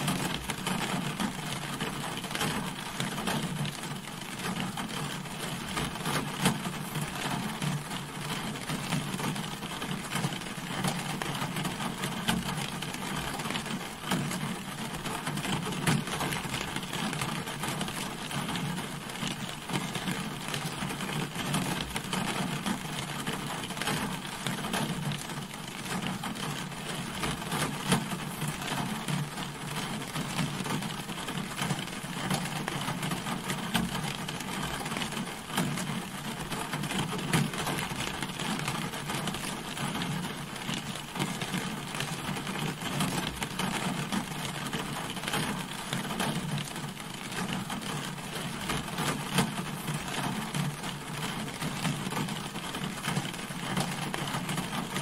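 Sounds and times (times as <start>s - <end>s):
rain on a car: 0.0s - 55.0s.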